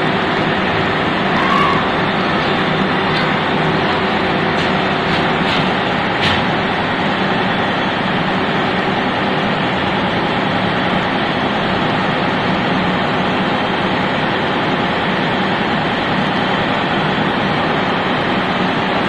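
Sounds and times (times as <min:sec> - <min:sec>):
engine room machinery drone: 0:00.0 - 0:19.0.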